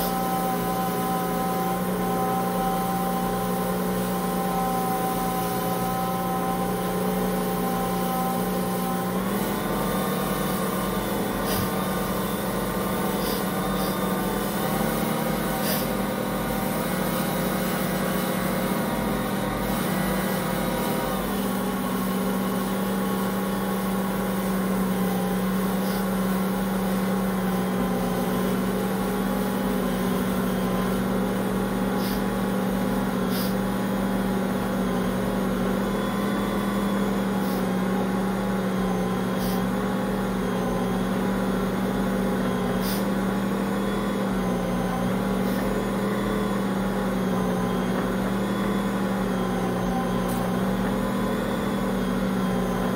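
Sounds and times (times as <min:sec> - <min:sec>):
stand mixer motor hum: 0:00.0 - 0:52.9.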